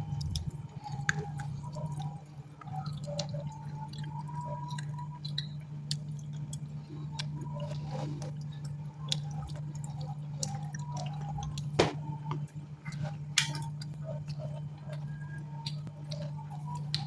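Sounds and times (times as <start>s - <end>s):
steady low hum: 0.0s - 17.0s
wet eating squishes: 0.0s - 17.0s.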